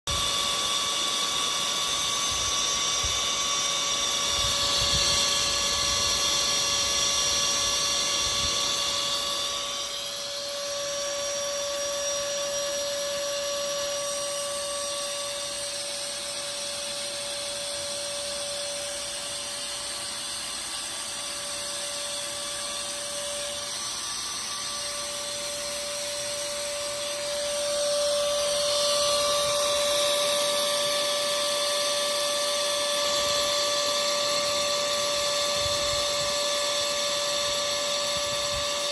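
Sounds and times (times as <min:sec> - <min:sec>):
air grinder whining: 0:00.1 - 0:38.9
grinding hiss: 0:00.1 - 0:38.9.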